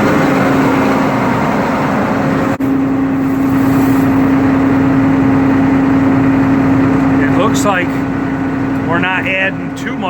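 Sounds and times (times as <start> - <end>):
combine diesel engine humming: 0.0 - 10.0.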